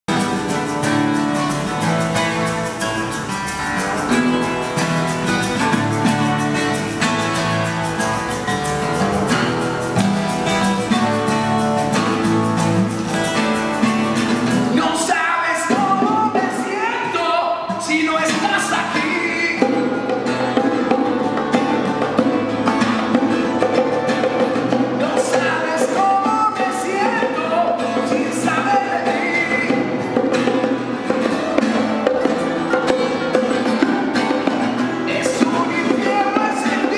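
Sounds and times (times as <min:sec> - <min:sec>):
bongos: 0:00.1 - 0:15.0, 0:15.6 - 0:36.9
acoustic guitars strummed: 0:00.1 - 0:36.9.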